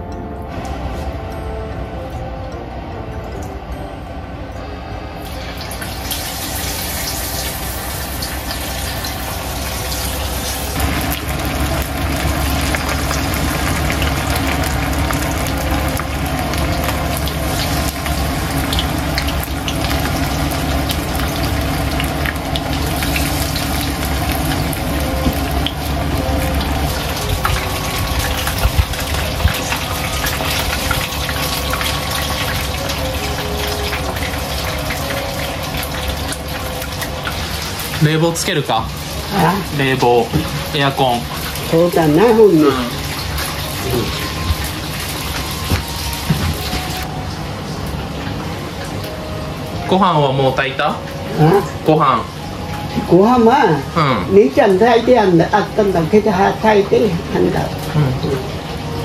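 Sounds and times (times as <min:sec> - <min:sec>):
water running from a tap: 0:05.3 - 0:59.0.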